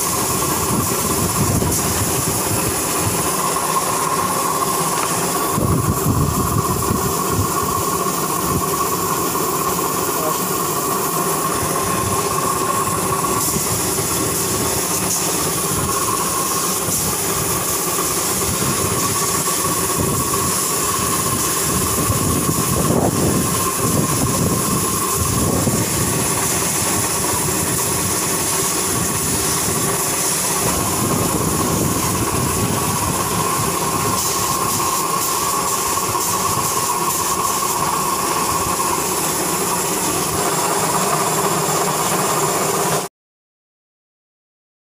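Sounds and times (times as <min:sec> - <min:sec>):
air compressor running: 0:00.0 - 0:43.1
spray gun air hiss: 0:00.0 - 0:43.1.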